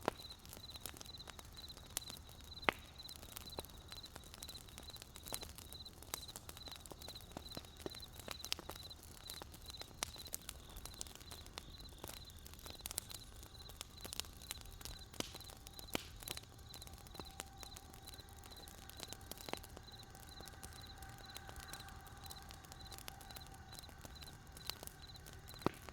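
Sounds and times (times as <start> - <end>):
cricket chirping: 0.0 - 25.9
wood fire crackling and popping: 0.0 - 25.9.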